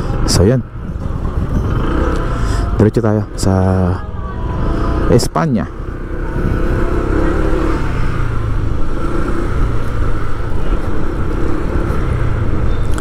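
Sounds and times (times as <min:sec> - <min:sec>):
road rumble: 0:00.0 - 0:13.0
vehicle engine hum: 0:00.0 - 0:13.0.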